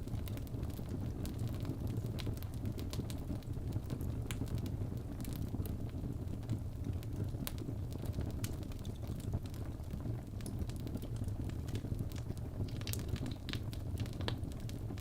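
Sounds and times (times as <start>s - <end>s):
fire crackles: 0.0s - 15.0s
fire rumbling: 0.0s - 15.0s.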